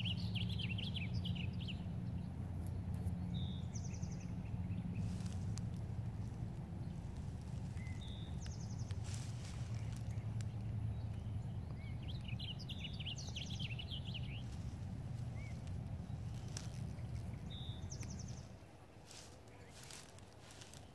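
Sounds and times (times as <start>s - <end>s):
songbirds chirping and trilling: 0.0s - 20.9s
steady low rumble: 0.0s - 20.9s.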